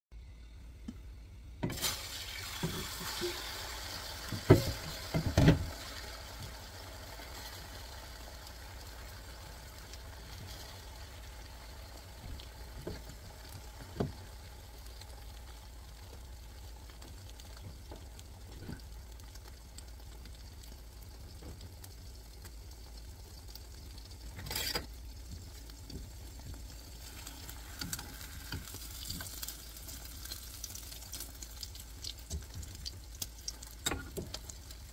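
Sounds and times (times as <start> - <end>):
egg frying in oil: 0.4 - 34.9.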